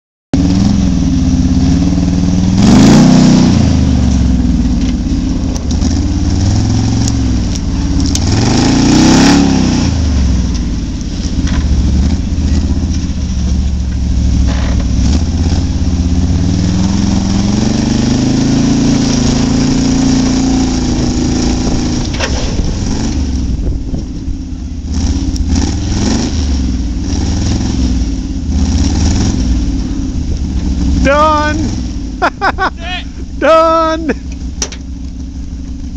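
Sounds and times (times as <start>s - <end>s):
truck engine revving hard: 0.4s - 4.7s, 5.3s - 13.5s, 14.1s - 34.3s.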